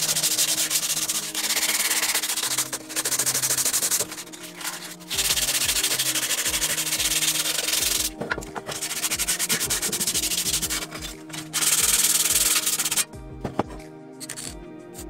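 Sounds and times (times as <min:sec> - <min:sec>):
sandpaper rubbing on sheet metal: 0:00.0 - 0:13.1.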